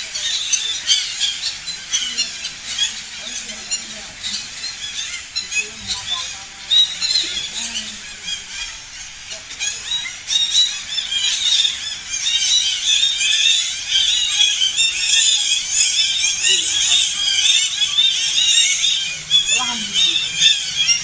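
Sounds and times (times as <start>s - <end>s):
parrots squawking: 0.0s - 21.0s.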